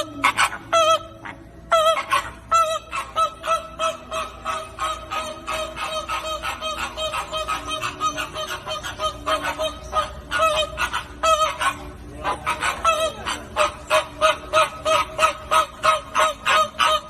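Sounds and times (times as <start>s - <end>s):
flamingos honking: 0.0s - 17.0s.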